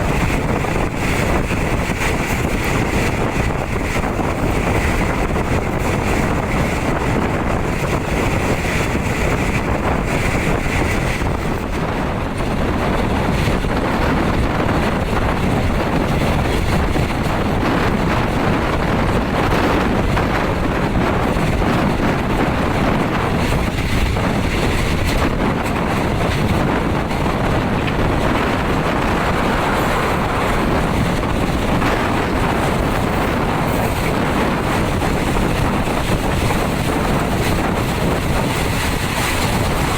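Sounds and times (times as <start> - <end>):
train running on rails: 0.0 - 39.9
wind rushing over microphone: 0.0 - 39.9.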